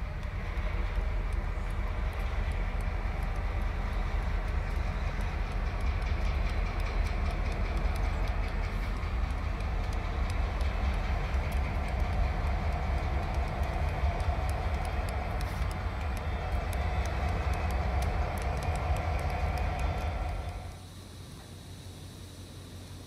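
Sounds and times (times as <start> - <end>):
wheels clicking over rail joints: 0.0 - 20.8
diesel locomotives rumbling: 0.0 - 23.0.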